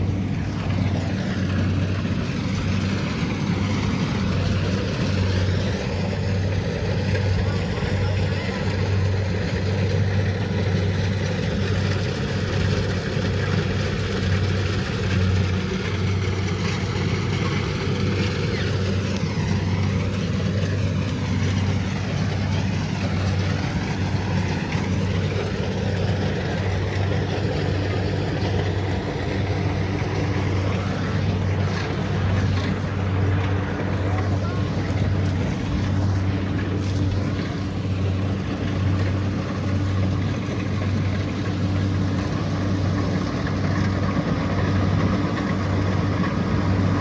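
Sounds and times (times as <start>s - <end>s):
combine harvester engine humming: 0.0s - 47.0s.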